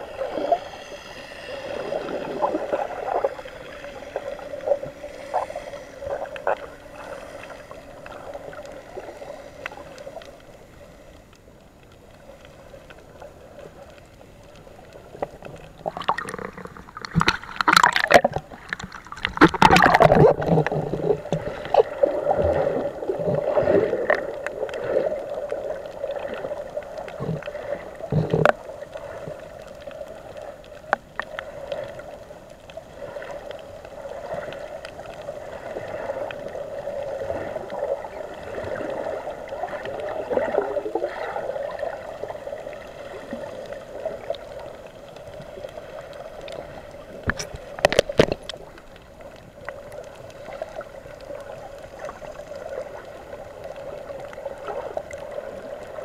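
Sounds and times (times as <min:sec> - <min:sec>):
muffled underwater rush and gurgle: 0:00.0 - 0:56.0.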